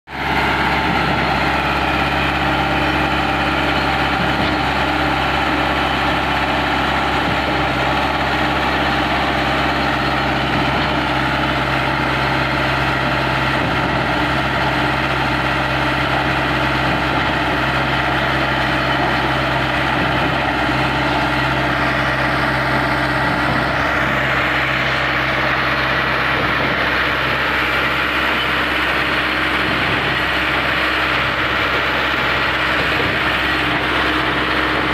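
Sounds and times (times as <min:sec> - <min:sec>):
heavy machinery humming: 0:00.1 - 0:34.9.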